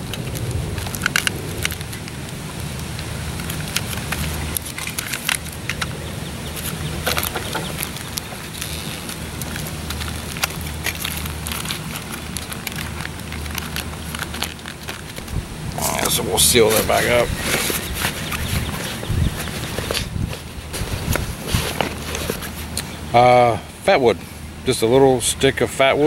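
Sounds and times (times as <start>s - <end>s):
plastic packets crinkling: 0.0s - 23.1s.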